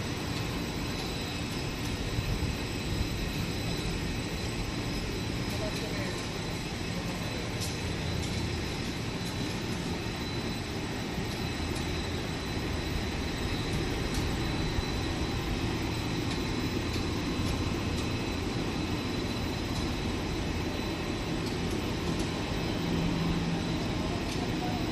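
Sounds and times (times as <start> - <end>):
machinery low hum: 0.0 - 24.9.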